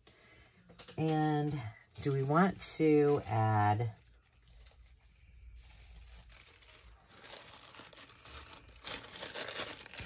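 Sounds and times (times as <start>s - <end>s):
paper rustling and crinkling: 1.0s - 10.0s.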